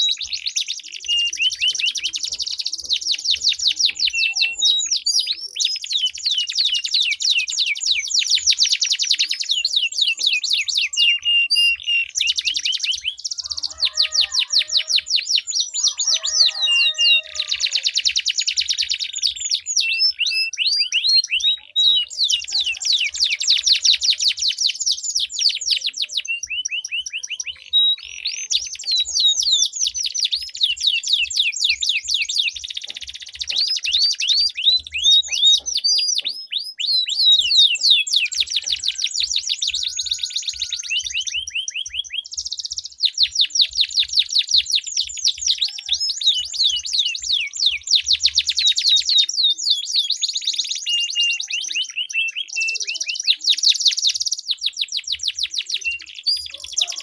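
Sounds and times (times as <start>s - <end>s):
canaries singing trills: 0.0s - 57.0s.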